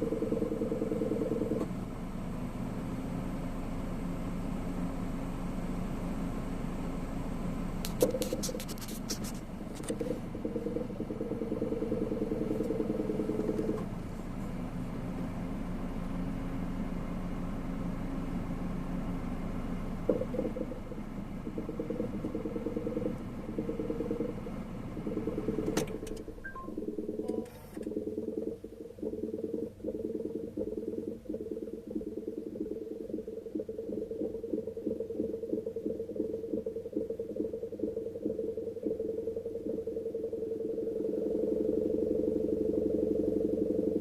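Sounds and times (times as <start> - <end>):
air conditioner gurgling: 0.0 - 44.0
steady hum: 0.0 - 44.0.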